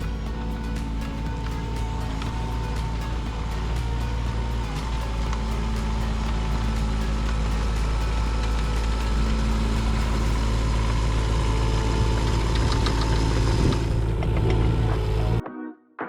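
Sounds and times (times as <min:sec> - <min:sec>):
excavator diesel engine running: 0:00.0 - 0:15.4.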